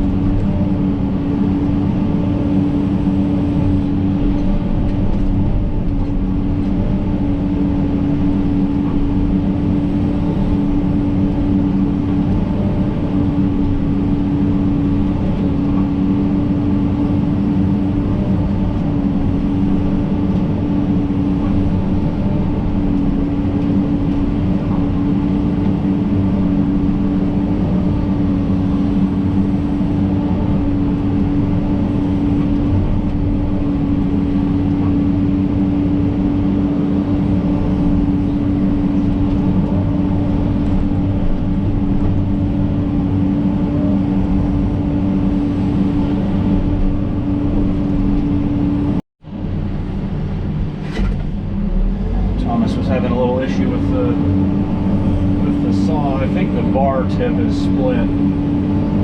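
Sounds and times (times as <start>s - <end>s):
excavator diesel engine humming: 0.0s - 59.0s.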